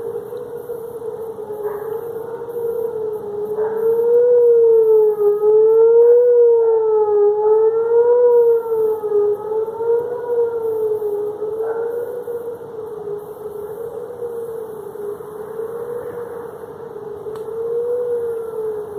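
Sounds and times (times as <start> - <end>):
siren-like wail: 0.0 - 18.9.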